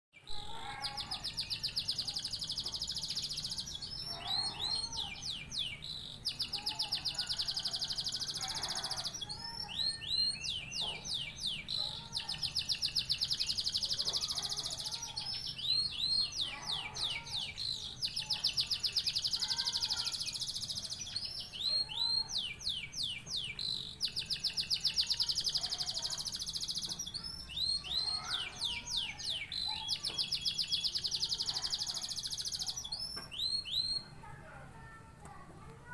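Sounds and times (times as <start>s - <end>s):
canary singing trills: 0.2s - 35.0s.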